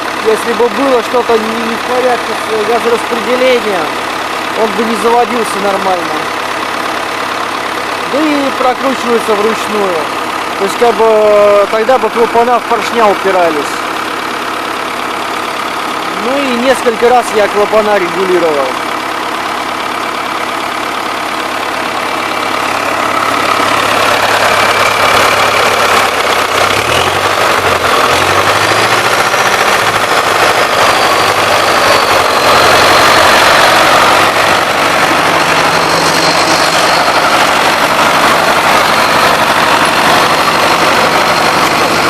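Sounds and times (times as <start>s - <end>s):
engine knocking: 0.0s - 42.0s
tractor diesel engine idling: 0.0s - 42.0s.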